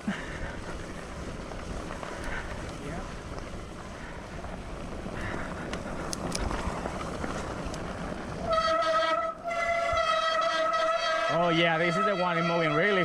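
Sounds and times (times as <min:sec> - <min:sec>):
wind noise: 0:00.0 - 0:11.3
bike tyres on trail: 0:00.0 - 0:13.0.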